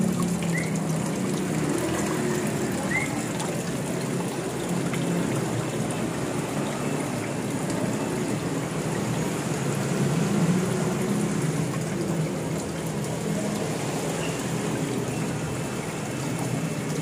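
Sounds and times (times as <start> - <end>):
waterfall trickling into pond: 0.0 - 17.0.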